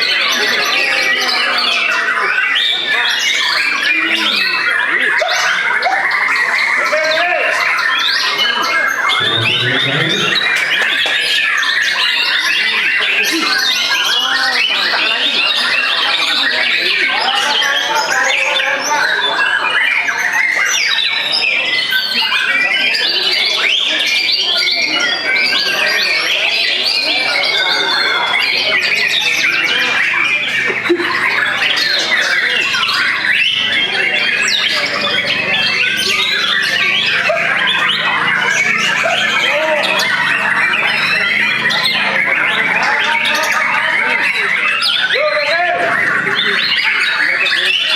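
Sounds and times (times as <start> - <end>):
birds singing whistles and trills: 0.0 - 47.9.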